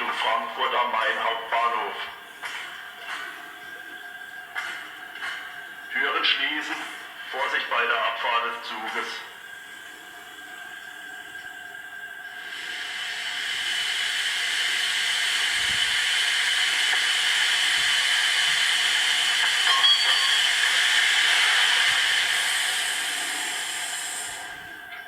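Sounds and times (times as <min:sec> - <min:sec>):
model locomotive steam hiss: 0:00.0 - 0:25.0.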